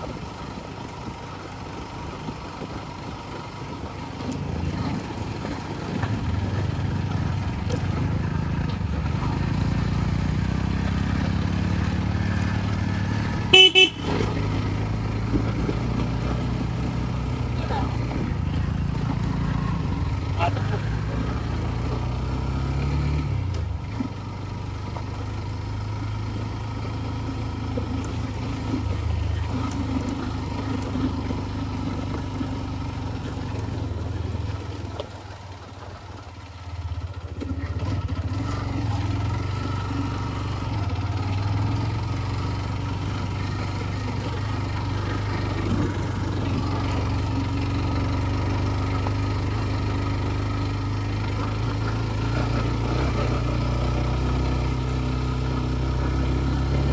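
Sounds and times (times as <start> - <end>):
scooter engine running: 0.0 - 56.9.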